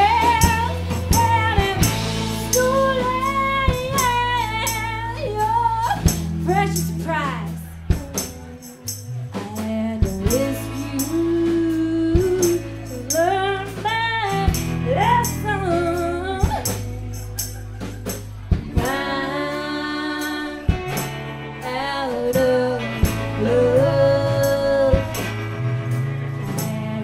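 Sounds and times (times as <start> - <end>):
person singing: 0.0 - 8.1, 8.7 - 25.6, 26.4 - 27.0
electric guitar: 0.0 - 27.0
tambourine: 0.0 - 27.0.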